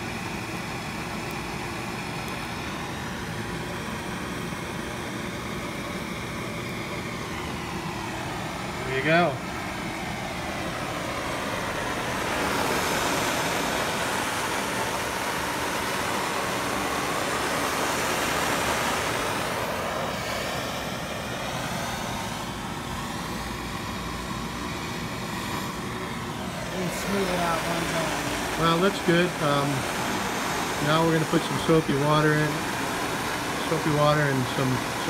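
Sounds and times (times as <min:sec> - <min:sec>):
gas torch roaring: 0:00.0 - 0:35.0.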